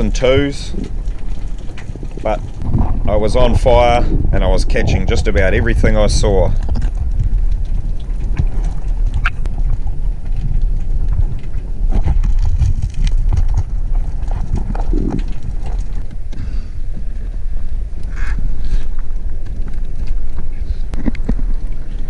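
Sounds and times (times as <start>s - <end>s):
camera bumping and scraping rocks: 0.0s - 22.0s
underwater rumble of moving water: 0.0s - 22.0s.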